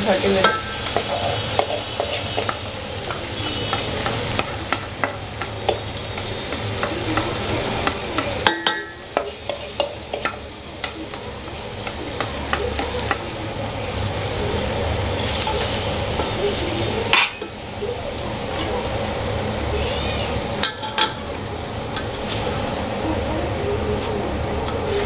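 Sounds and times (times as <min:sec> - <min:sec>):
meat and rice sizzling in a pot: 0:00.0 - 0:25.0.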